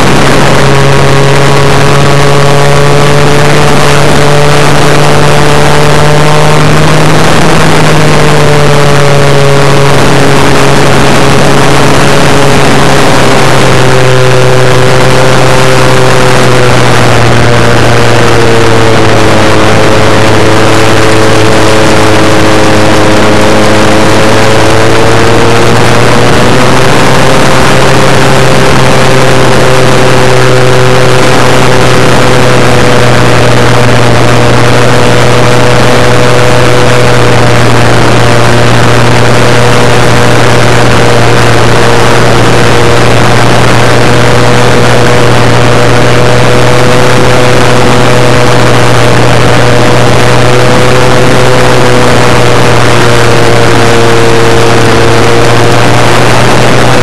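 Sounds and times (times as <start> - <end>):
electric motor and propeller whine: 0.0 - 57.0.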